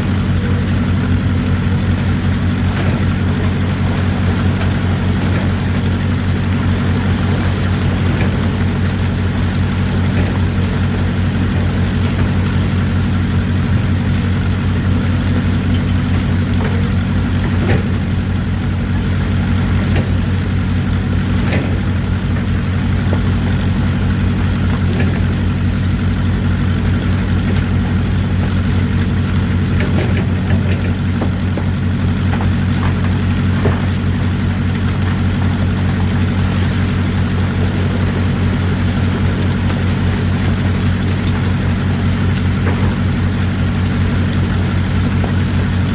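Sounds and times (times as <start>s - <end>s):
excavator diesel engines running: 0.0s - 45.9s.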